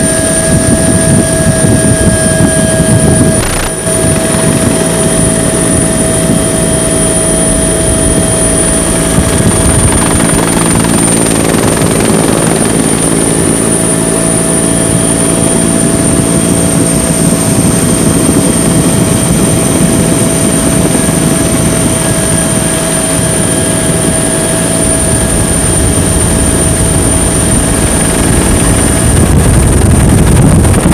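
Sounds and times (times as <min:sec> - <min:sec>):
helicopter whine and drone: 0:00.0 - 0:30.9.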